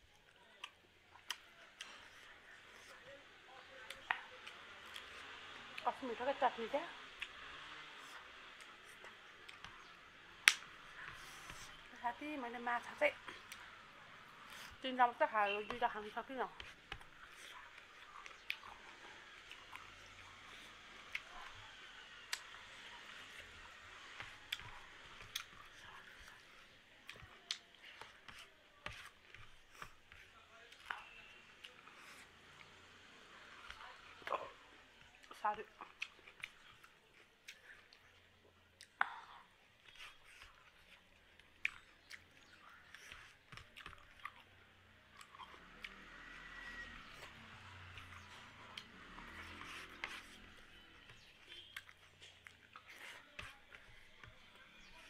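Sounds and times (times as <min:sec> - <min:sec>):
person chewing food: 0:00.0 - 0:05.9, 0:07.0 - 0:12.0, 0:12.9 - 0:55.0
sharp wet clicks and smacks: 0:00.0 - 0:06.0, 0:07.0 - 0:46.3, 0:47.0 - 0:55.0.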